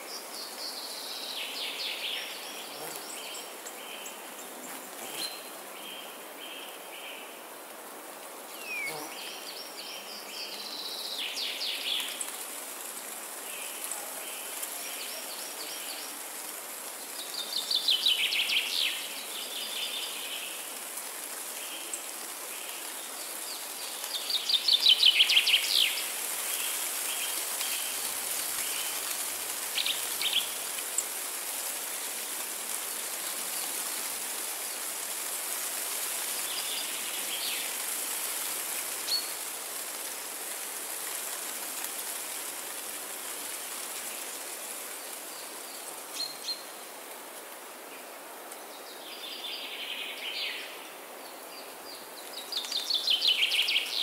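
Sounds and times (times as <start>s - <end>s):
wind rustling through treetops: 0.0s - 54.0s.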